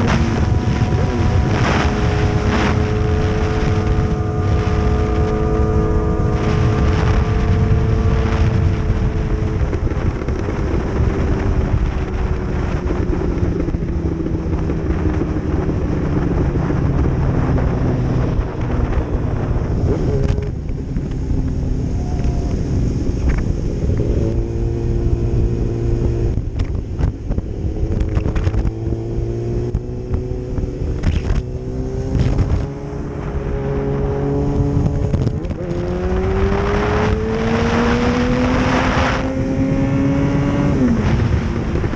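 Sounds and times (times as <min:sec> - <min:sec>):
race motorcycle engines: 0:00.0 - 0:41.9.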